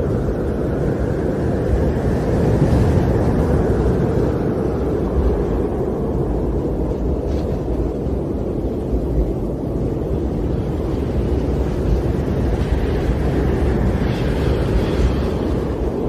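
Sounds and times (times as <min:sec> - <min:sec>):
storm wind rushing: 0:00.0 - 0:16.0.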